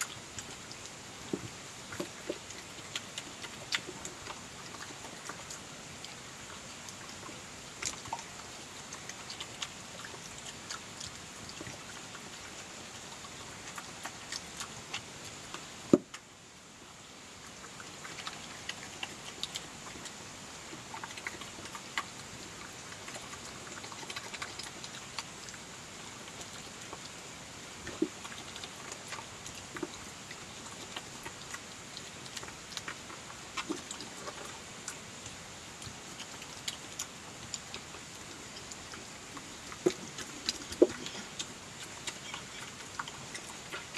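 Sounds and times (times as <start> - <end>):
badger chewing and snuffling: 0.0 - 43.9.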